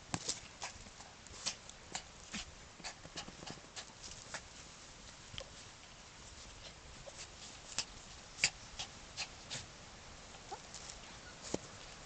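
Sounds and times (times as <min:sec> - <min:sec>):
dog paws scratching soil and leaves: 0:00.0 - 0:12.0.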